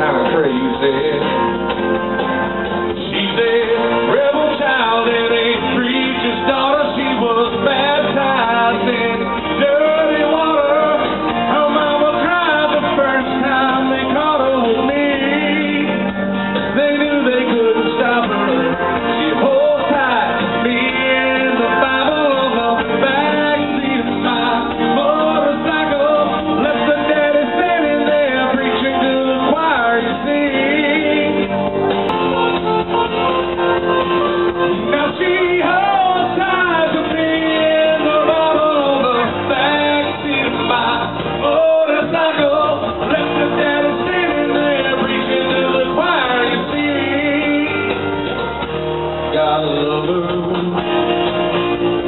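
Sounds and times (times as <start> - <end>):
man singing through microphone: 0.0 - 1.4, 2.9 - 31.8, 34.2 - 48.4, 49.2 - 51.6
country-rock backing track with guitar: 0.0 - 52.0.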